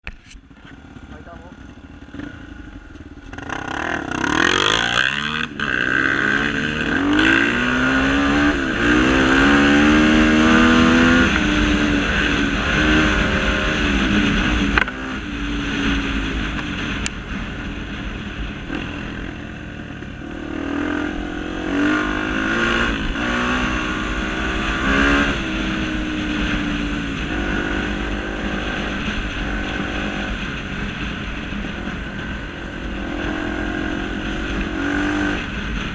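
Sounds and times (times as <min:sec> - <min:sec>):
motorcycle engine revving: 0:00.1 - 0:35.9.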